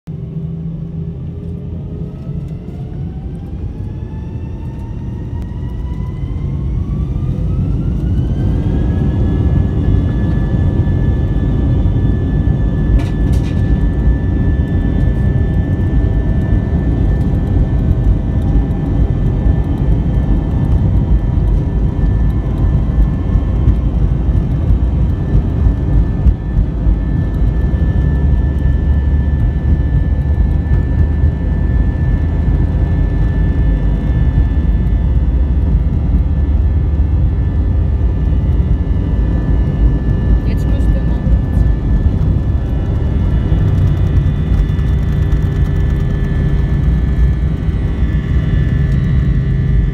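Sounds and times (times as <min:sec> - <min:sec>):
jet engines whining and rumbling: 0:00.1 - 0:49.9.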